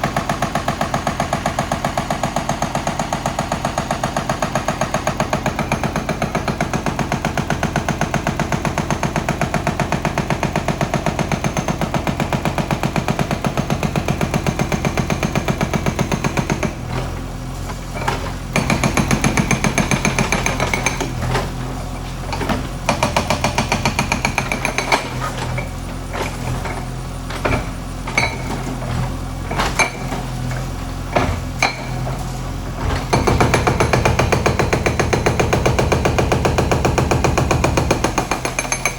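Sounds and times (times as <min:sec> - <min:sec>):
hydraulic breaker hammering: 0:00.0 - 0:21.6, 0:22.3 - 0:38.9.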